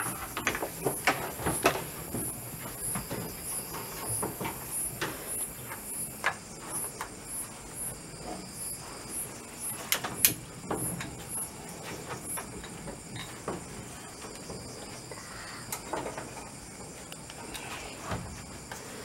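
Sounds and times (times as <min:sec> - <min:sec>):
high insect whine: 0:00.0 - 0:19.0
insect chirping: 0:00.0 - 0:19.0.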